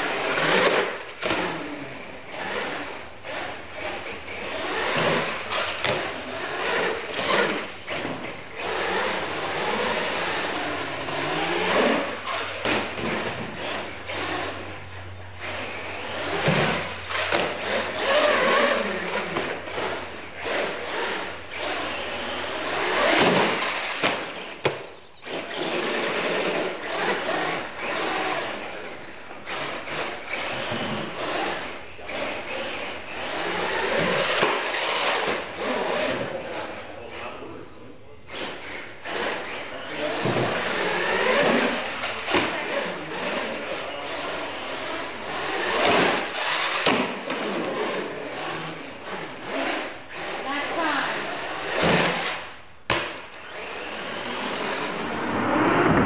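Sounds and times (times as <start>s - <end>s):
toy truck motors whining: 0.0s - 55.1s.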